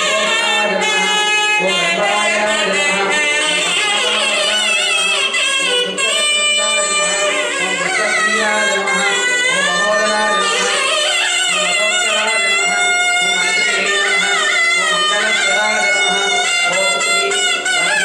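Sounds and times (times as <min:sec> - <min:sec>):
ornamented melody line: 0:00.0 - 0:18.0.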